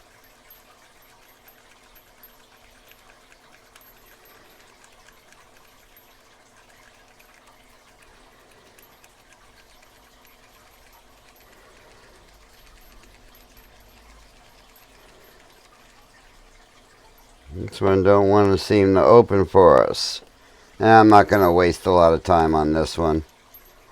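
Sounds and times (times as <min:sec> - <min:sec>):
lock pick ticking and scraping: 0:00.0 - 0:23.9
low background hiss: 0:00.0 - 0:23.9.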